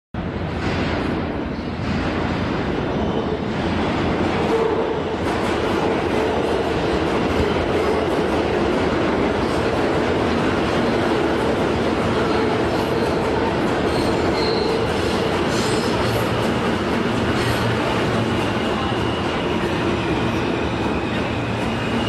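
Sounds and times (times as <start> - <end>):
subway train rumbling: 0.2 - 22.0.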